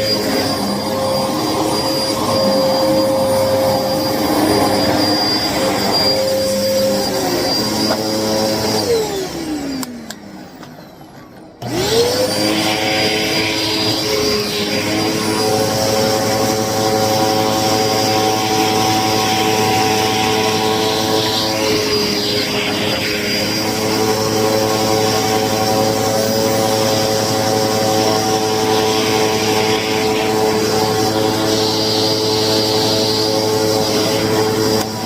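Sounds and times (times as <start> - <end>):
vacuum motor spinning down: 0.0 - 11.0, 11.6 - 35.0
vacuum cleaner motor whining: 0.0 - 35.0.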